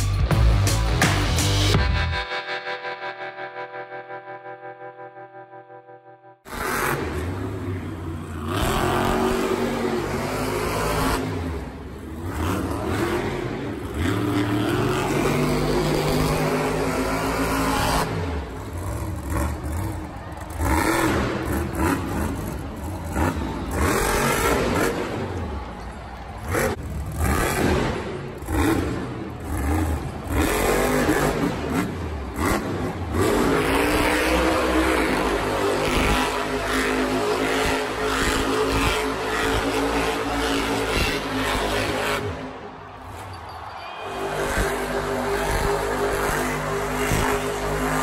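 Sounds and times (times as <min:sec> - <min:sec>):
truck engines revving: 0:06.5 - 0:48.0.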